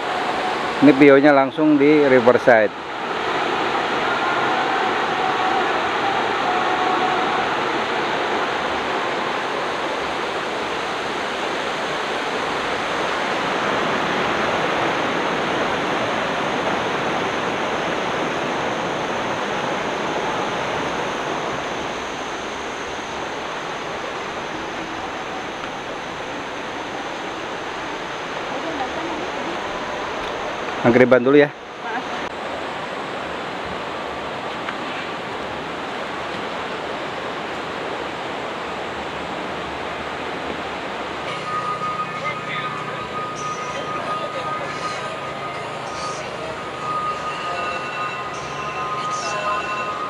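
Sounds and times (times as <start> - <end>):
river rushing over rocks: 0.0 - 50.0.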